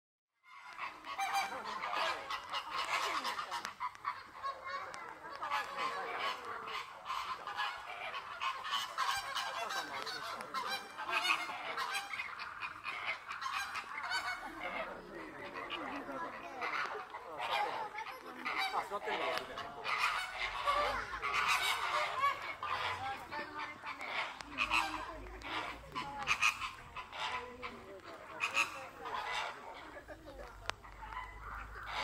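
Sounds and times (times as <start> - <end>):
flock of flamingos honking: 0.4 - 32.0.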